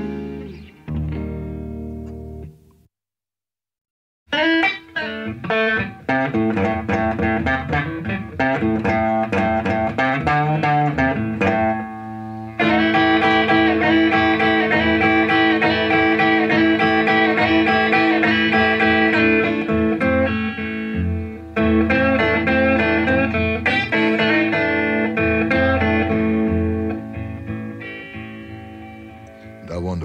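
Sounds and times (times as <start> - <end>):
electric blues guitar: 0.0 - 2.8, 4.3 - 30.0.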